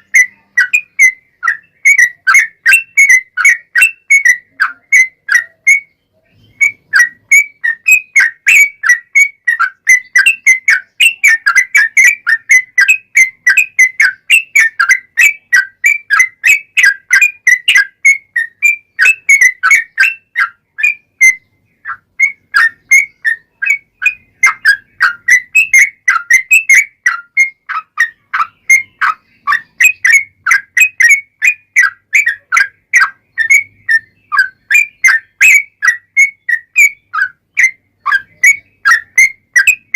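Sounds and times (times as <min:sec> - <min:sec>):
bulbul singing chirpy notes: 0:00.0 - 0:39.9.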